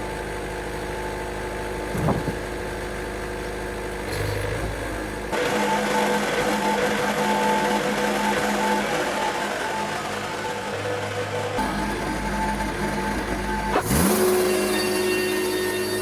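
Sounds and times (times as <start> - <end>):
sawmill engine running: 0.0 - 16.0.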